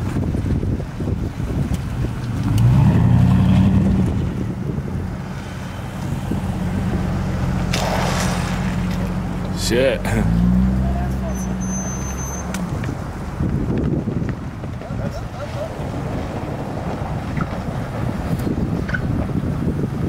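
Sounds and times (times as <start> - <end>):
wind rumble on microphone: 0.0 - 9.6, 10.3 - 20.0
vehicle engine running: 0.0 - 18.2
vehicle passing: 1.8 - 19.3.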